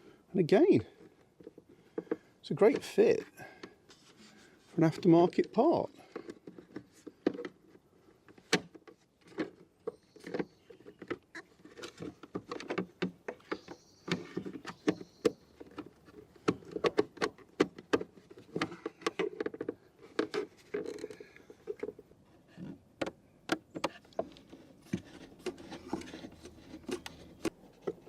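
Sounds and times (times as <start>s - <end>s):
plastic parts clicking and tapping: 4.9s - 22.0s, 22.6s - 28.0s.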